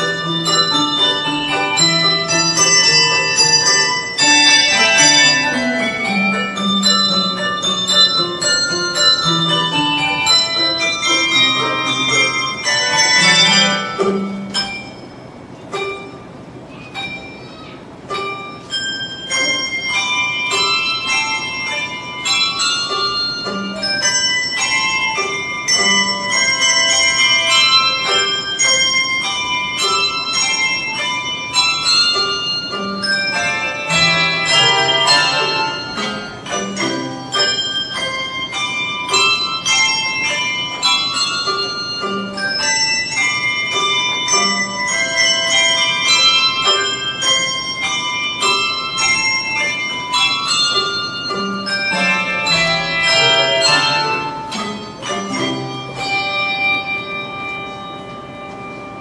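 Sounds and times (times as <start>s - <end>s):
deep bass bells: 0.0s - 15.3s, 18.6s - 59.0s
handbell choir playing: 0.0s - 59.0s.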